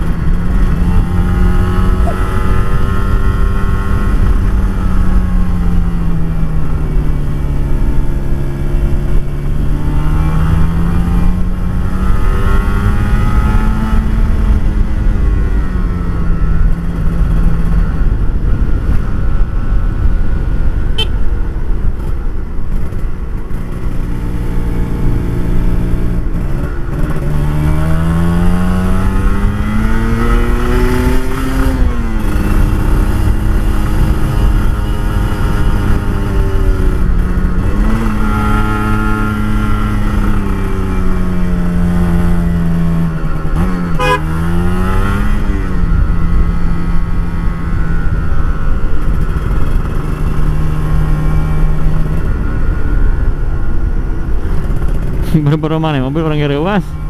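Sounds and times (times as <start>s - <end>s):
two-stroke motorcycle engine revving: 0.0s - 18.9s, 22.0s - 57.0s.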